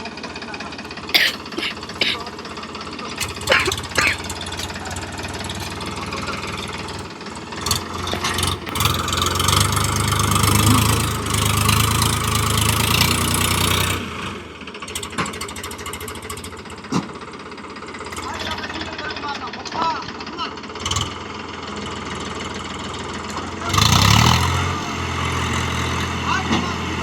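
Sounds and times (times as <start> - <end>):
tractor diesel engine revving: 0.1 - 27.0.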